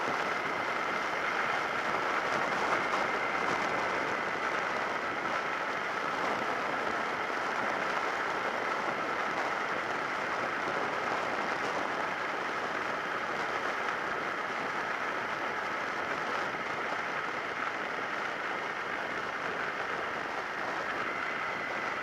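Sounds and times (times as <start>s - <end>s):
faint steady whine: 0.0s - 22.0s
wind and road noise: 0.0s - 22.0s.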